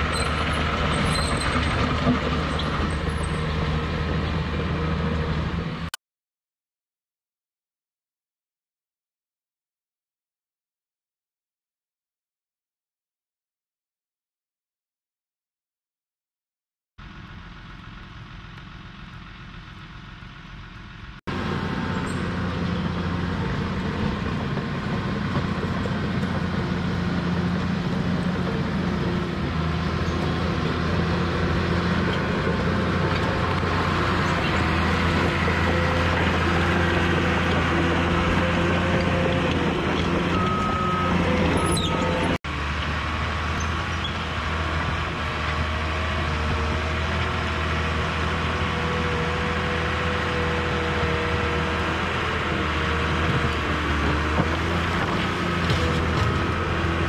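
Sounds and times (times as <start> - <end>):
bulldozer diesel engine under load: 0.0 - 6.0, 17.0 - 57.0.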